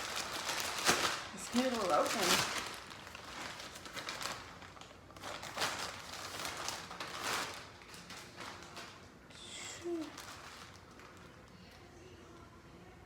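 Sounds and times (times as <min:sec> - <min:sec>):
packaging rustling and tearing: 0:00.0 - 0:09.2, 0:09.8 - 0:11.8.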